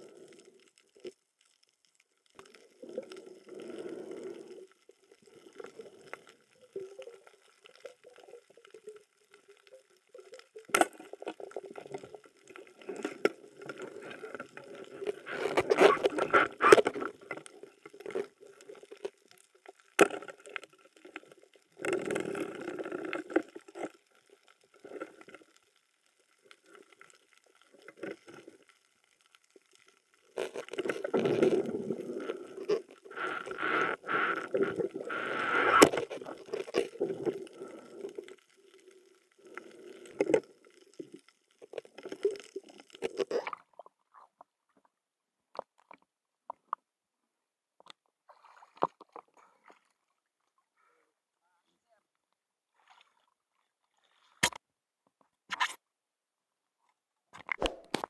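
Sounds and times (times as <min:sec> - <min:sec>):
muffled water sloshing underwater: 0:00.0 - 0:46.7, 0:48.1 - 0:51.3, 0:52.5 - 0:54.8.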